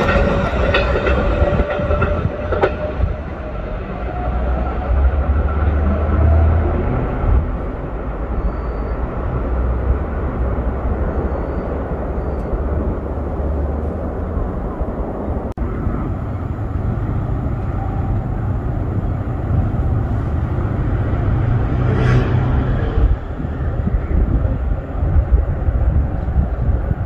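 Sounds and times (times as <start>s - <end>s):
distant approaching train: 0.0s - 27.0s
low outdoor rumble: 0.0s - 27.0s.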